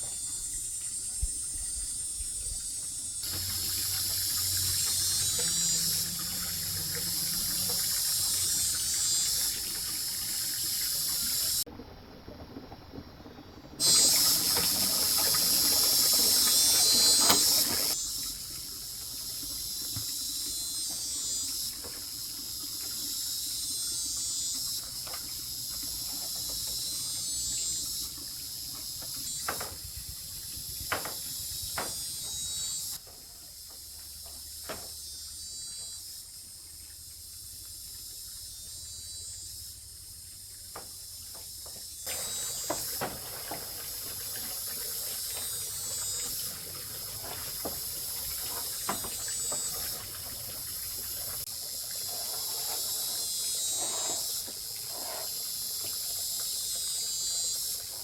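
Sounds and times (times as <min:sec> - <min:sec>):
cicadas buzzing: 0:00.0 - 0:11.7, 0:13.8 - 0:58.0.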